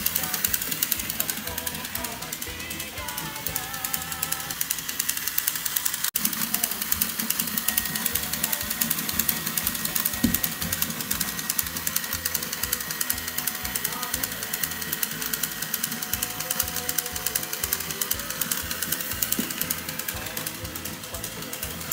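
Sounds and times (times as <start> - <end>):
toy train mechanism clicking: 0.0 - 21.9.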